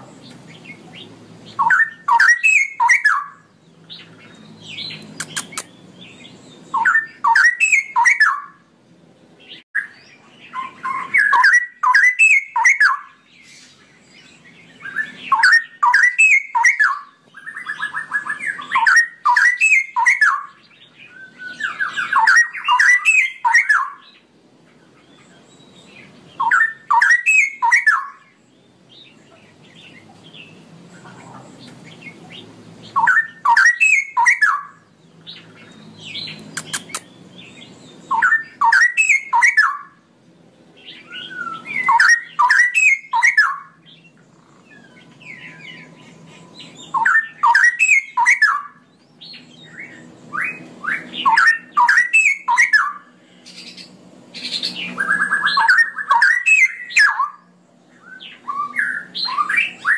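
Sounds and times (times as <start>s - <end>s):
bird singing bubbling song: 0.0s - 59.9s.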